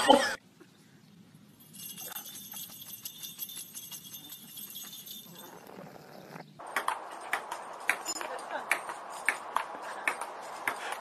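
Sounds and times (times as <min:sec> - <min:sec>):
small bells jingling: 0:01.4 - 0:11.0.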